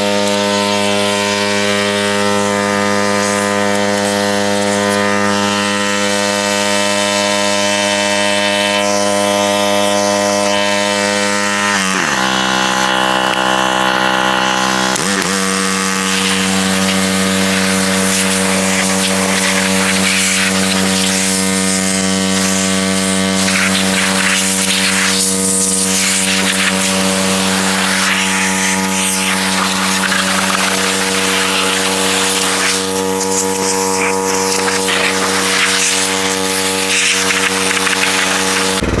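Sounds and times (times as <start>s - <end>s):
pressure washer engine running: 0.0s - 39.0s.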